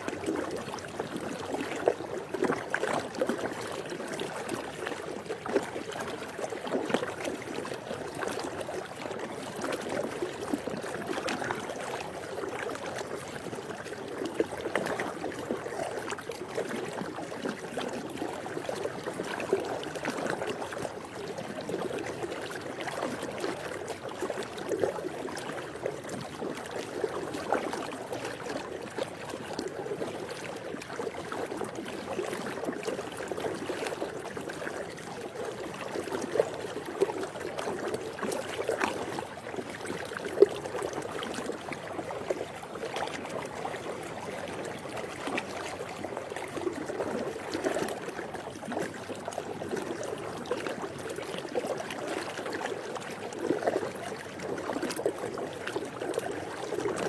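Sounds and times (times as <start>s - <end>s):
pool water lapping: 0.0s - 57.0s
small water splashes: 0.0s - 57.0s.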